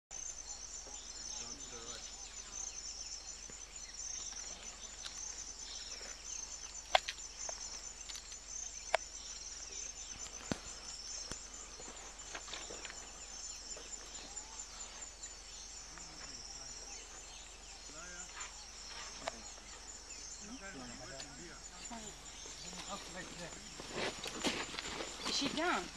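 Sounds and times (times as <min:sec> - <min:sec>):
pulsing insect chorus: 0:00.1 - 0:25.9.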